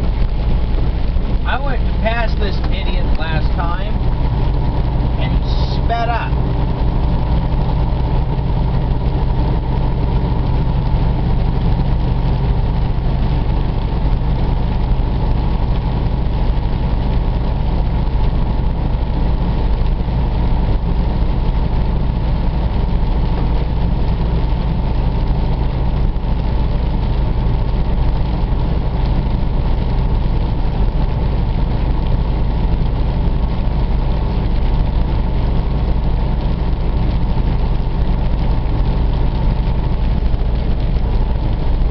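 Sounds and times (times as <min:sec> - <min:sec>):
truck diesel drone: 0:00.0 - 0:41.9.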